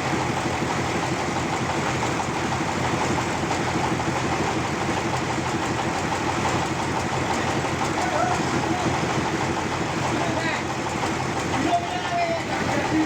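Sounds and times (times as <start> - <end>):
sawmill engine pulsing: 0.0 - 13.0.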